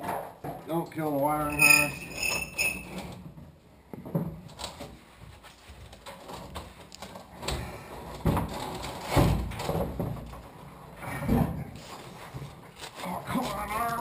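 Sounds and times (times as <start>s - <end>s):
knocking and scraping metal: 1.4s - 5.0s, 5.7s - 14.0s.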